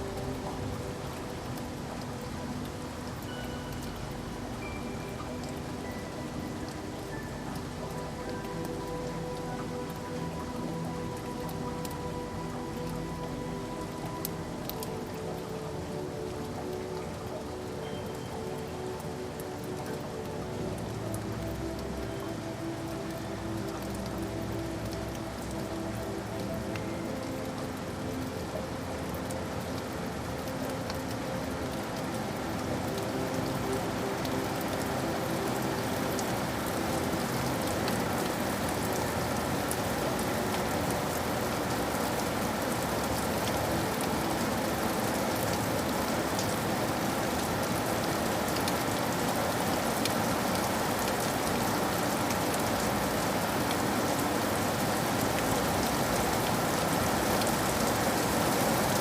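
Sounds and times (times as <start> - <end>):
rain falling on a surface: 0.0 - 59.0.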